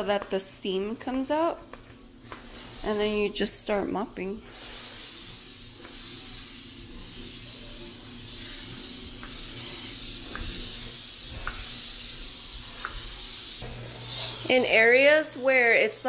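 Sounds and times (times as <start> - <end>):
steam mop hissing: 2.3 - 16.0.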